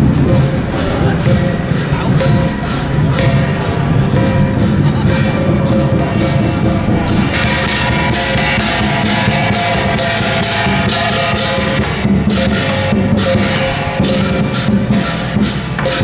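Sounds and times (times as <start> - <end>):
drums and percussion beat: 0.0 - 16.0
sustained pitched notes: 0.0 - 16.0.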